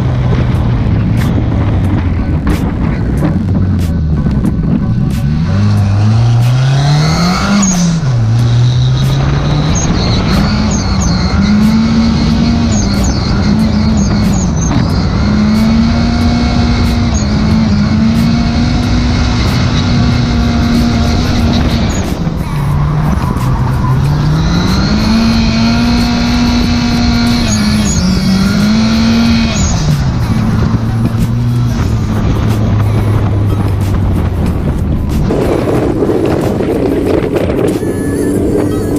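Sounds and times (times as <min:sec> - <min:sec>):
car engine at high revs: 0:00.0 - 0:38.9.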